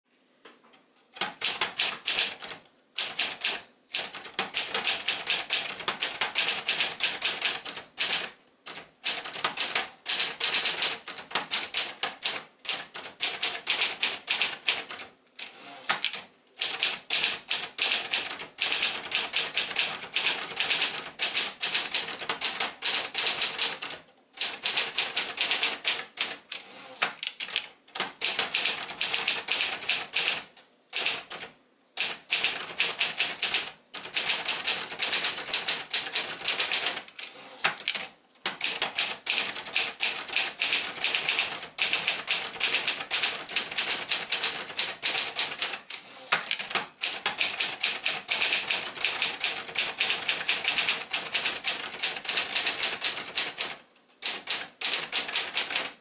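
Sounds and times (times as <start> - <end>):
manual typewriter typing: 1.2 - 56.0.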